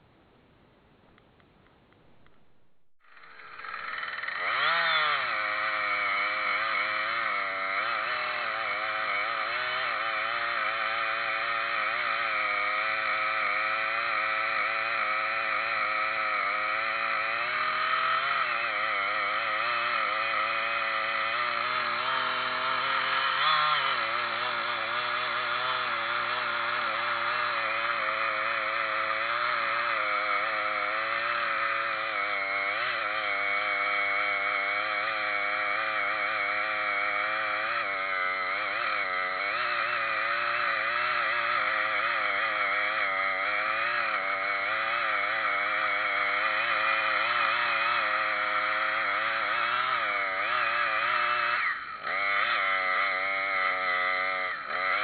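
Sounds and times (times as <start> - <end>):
chainsaw engine running: 2.1 - 55.0.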